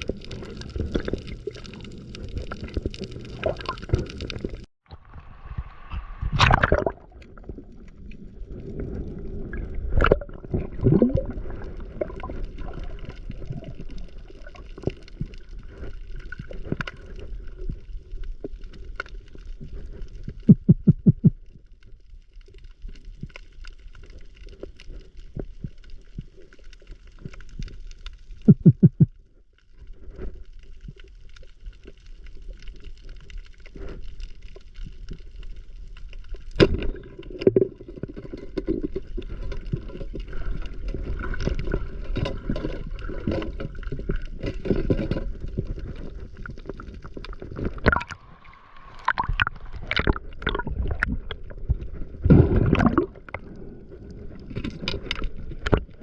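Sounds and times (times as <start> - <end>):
water sloshing and gurgling: 0.0 - 29.1, 29.9 - 56.0.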